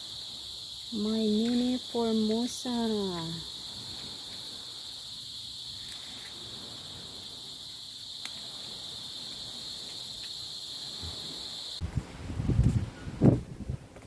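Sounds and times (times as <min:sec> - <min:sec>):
crickets trilling: 0:00.0 - 0:11.8.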